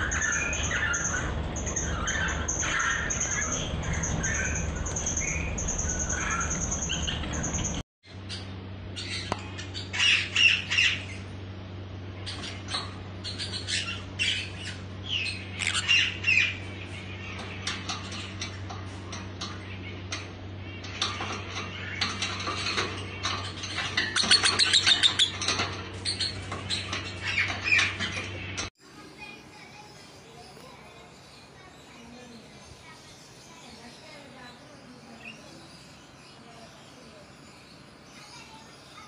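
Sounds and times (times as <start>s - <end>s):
lovebirds chirping and squawking: 0.0s - 39.0s
steady low hum: 0.0s - 39.0s.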